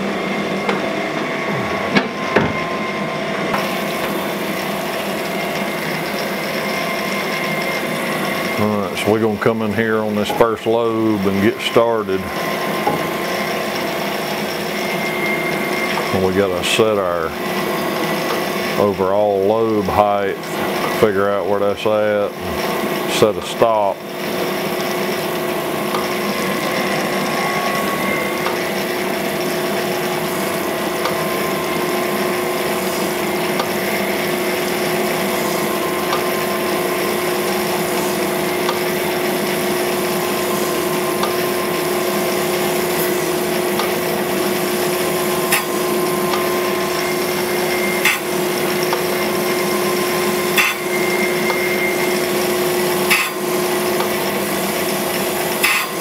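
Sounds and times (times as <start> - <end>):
coolant wash and grinding: 0.0 - 56.0
grinding machine hum: 0.0 - 56.0.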